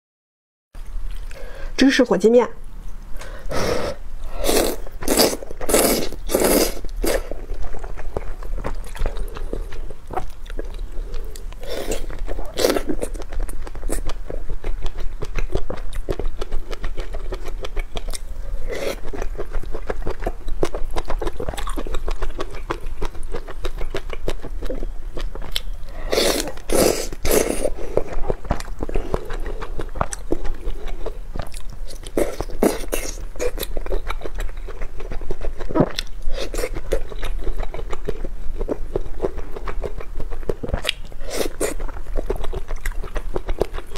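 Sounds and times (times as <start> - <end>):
wet chewing and mouth clicks: 4.5 - 43.9.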